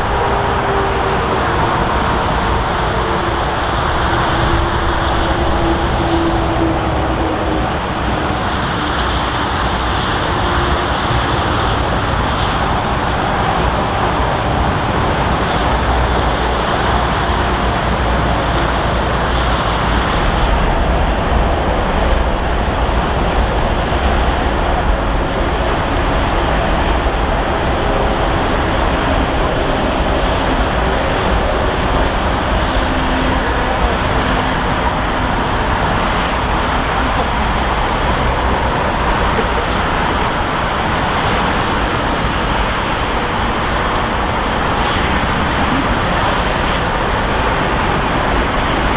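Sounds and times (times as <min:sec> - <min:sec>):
jet engines passing close: 0:00.0 - 0:48.9.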